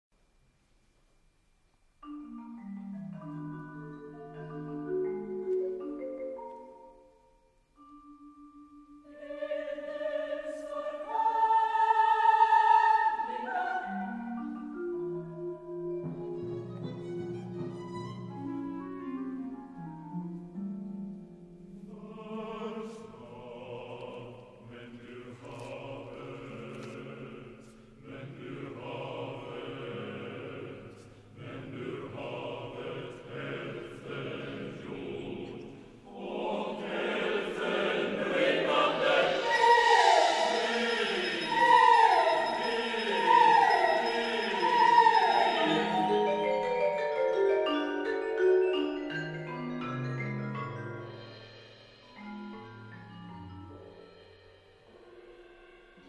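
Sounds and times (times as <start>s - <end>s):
orchestral music with choir: 3.0s - 56.0s.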